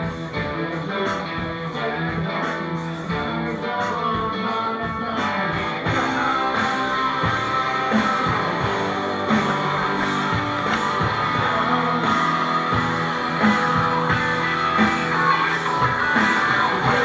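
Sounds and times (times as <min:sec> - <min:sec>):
guitar: 0:00.0 - 0:17.0
rock band playing: 0:00.0 - 0:17.0
steady drum beat: 0:00.0 - 0:17.0.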